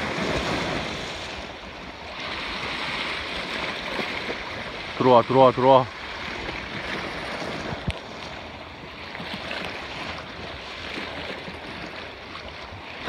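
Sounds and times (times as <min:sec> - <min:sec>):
sea waves washing: 0:00.0 - 0:13.0.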